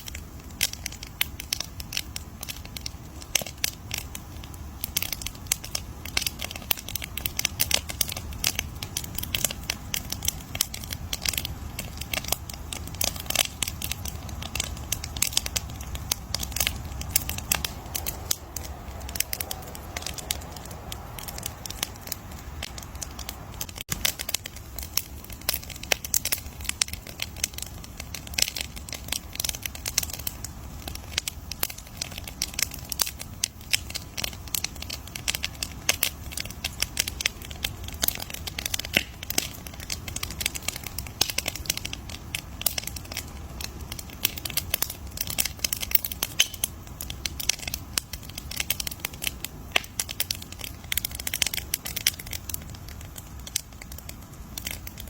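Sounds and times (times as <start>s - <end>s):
burning wood crackling and popping: 0.0s - 55.0s
low rumble of flames: 0.0s - 55.0s.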